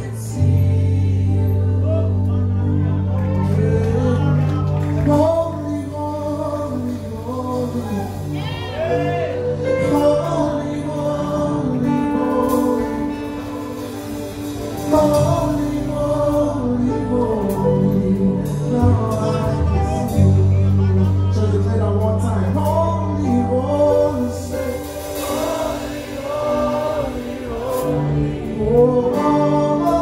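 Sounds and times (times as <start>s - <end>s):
band with bass guitar and drums: 0.0s - 30.0s
voices singing worship song: 0.0s - 30.0s.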